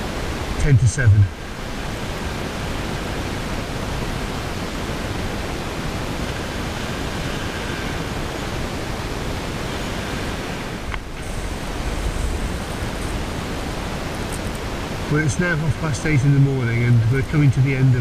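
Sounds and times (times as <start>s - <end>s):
surf on a shingle beach: 0.0s - 18.0s
wind: 0.0s - 18.0s.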